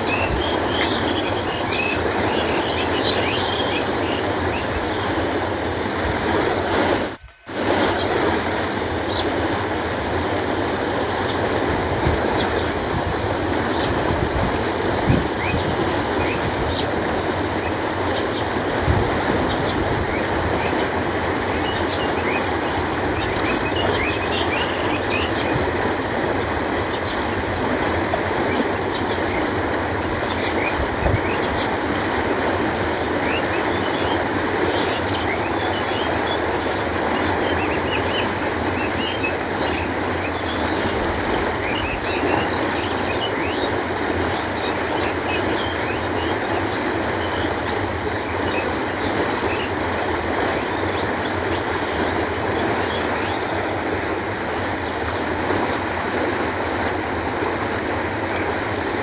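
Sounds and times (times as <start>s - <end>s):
canal water rushing: 0.0s - 59.0s.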